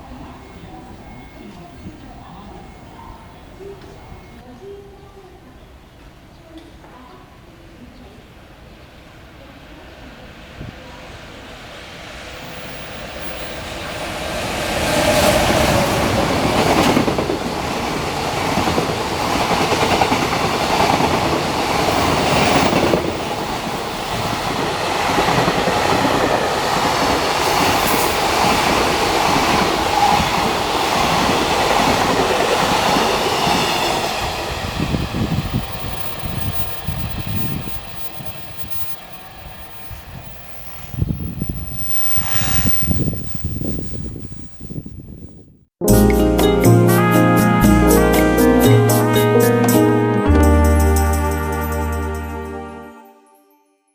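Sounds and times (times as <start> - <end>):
freight train passing: 0.0 - 6.3, 6.9 - 52.3.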